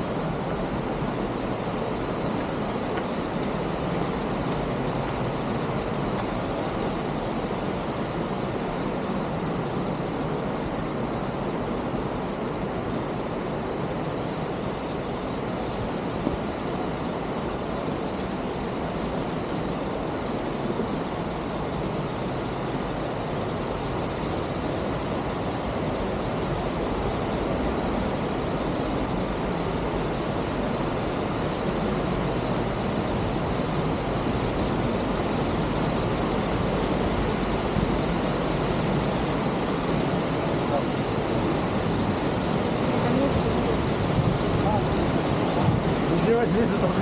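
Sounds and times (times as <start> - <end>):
waterfall roaring: 0.0 - 47.0.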